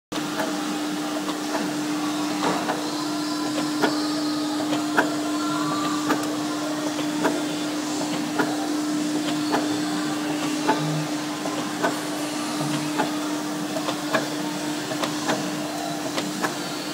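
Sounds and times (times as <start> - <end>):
punching machine motor hum: 0.1 - 16.9.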